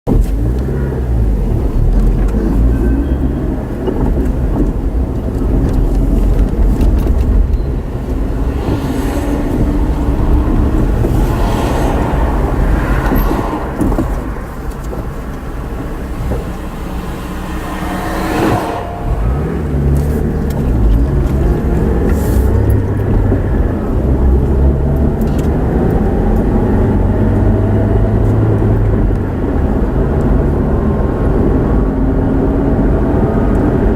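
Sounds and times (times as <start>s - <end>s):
road rumble: 0.0s - 33.9s
car engine hum: 0.1s - 33.9s
vehicles passing: 0.1s - 33.9s.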